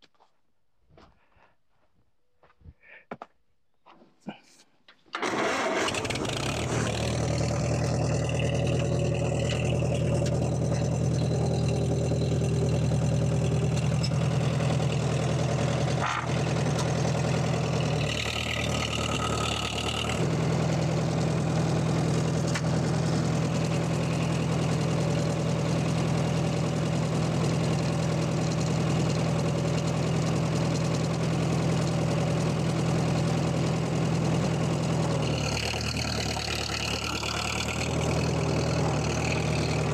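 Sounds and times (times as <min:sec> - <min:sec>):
tractor engine running: 0:05.1 - 0:39.9.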